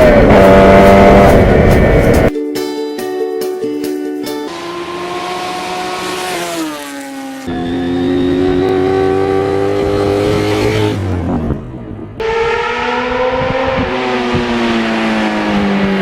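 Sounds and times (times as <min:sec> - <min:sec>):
motorcycle engine: 0:00.0 - 0:02.3, 0:04.4 - 0:16.0.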